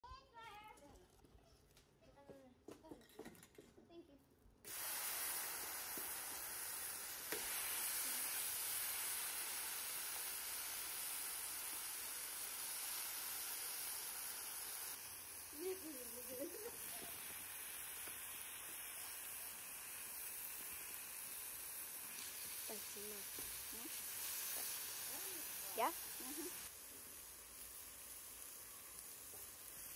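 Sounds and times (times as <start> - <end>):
steaks sizzling on a griddle: 4.7 - 29.9.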